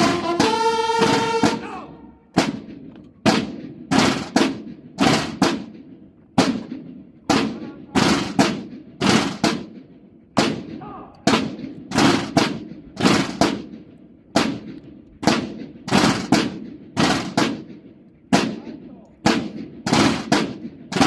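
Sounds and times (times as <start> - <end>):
military drums striking: 0.0 - 21.0.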